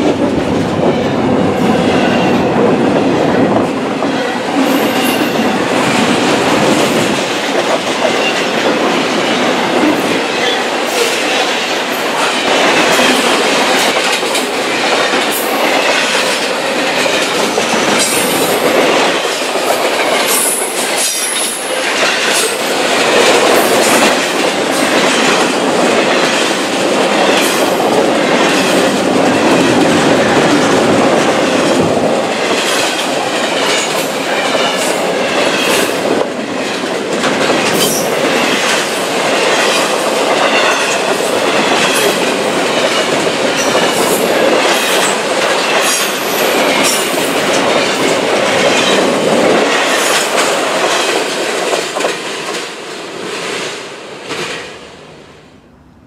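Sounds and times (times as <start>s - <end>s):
freight train wheels rumbling: 0.0s - 56.0s
wheels clickety-clack: 4.6s - 54.6s.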